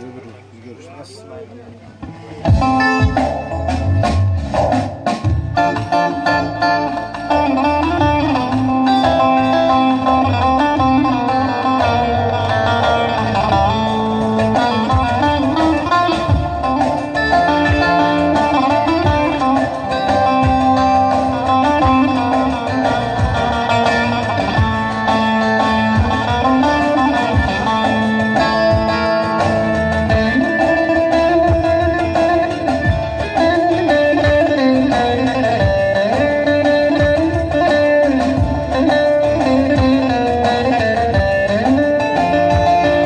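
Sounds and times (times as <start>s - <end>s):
electric lute melody: 1.5s - 43.0s.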